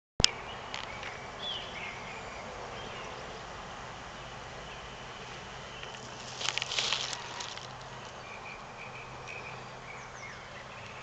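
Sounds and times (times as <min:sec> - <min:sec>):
outdoor background noise: 0:00.2 - 0:11.0.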